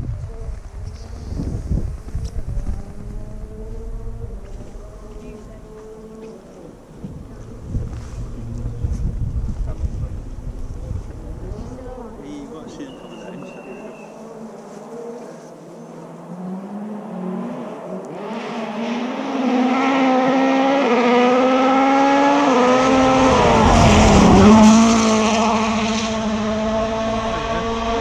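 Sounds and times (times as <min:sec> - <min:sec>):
rally car passing at speed: 0:00.3 - 0:28.0.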